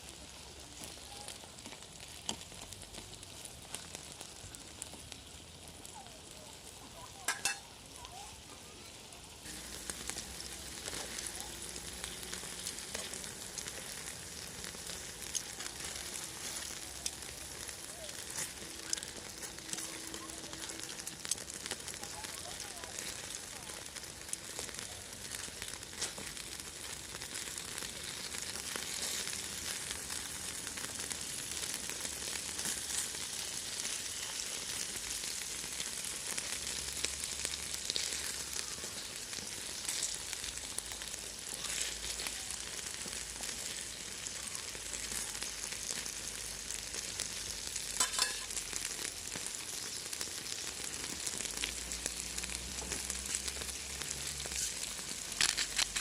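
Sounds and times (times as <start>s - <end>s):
food sizzling on steel griddle: 0.0s - 56.0s
grease pops: 0.8s - 6.0s, 9.4s - 56.0s.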